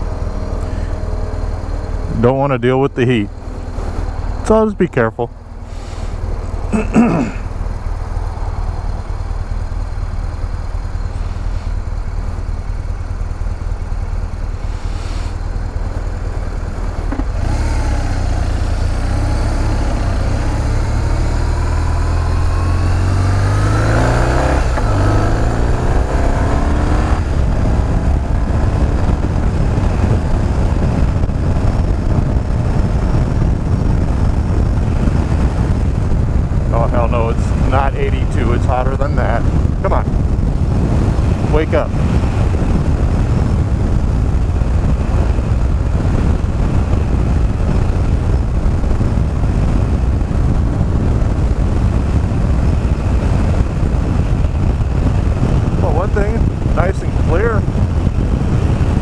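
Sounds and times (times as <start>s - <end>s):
motorcycle engine: 0.0s - 59.0s
road and wind noise: 0.0s - 59.0s.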